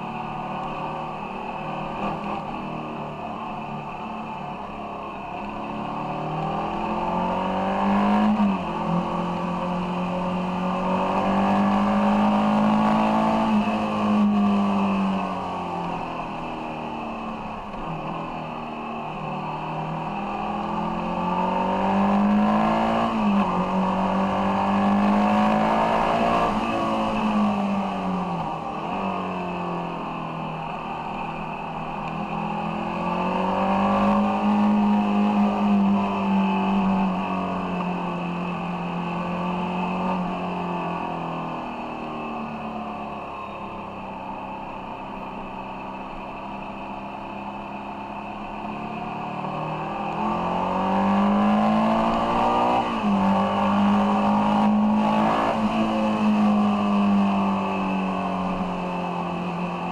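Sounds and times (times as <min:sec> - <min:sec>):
motorcycle engine while riding: 0:00.0 - 0:59.9.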